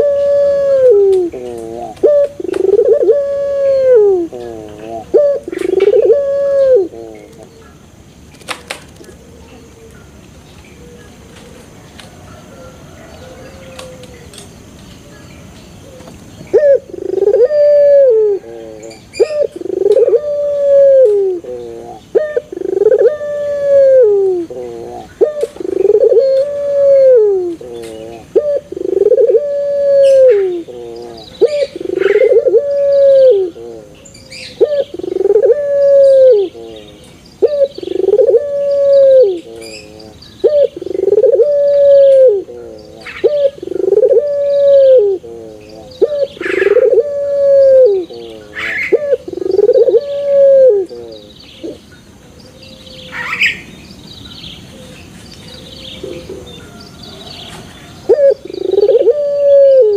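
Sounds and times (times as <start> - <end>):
dove cooing: 0.0 - 10.2, 10.8 - 14.4, 15.8 - 51.9, 54.6 - 59.9.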